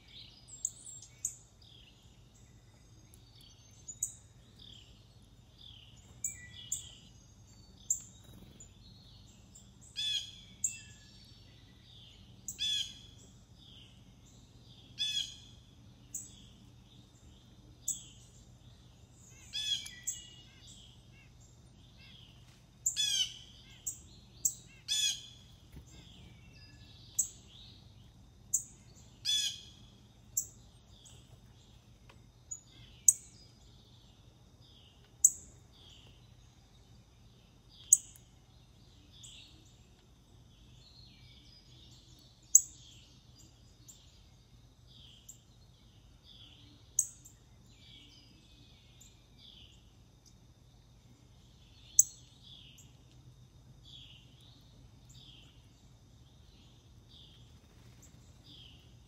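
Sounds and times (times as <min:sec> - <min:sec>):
wild bird calls with downward notes: 0:00.0 - 0:50.4.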